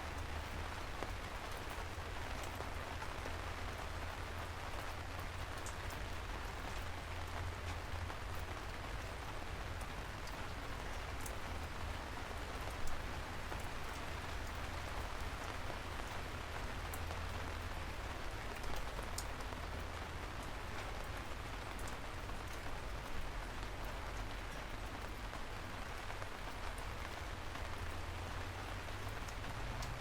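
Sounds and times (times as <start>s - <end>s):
rain falling: 0.0s - 30.0s
raindrops ticking: 0.0s - 30.0s.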